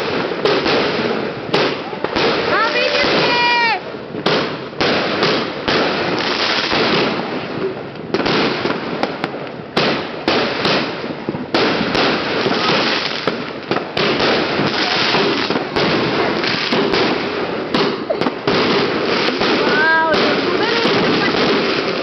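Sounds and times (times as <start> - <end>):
fireworks bangs with crackling sparks: 0.0 - 22.0.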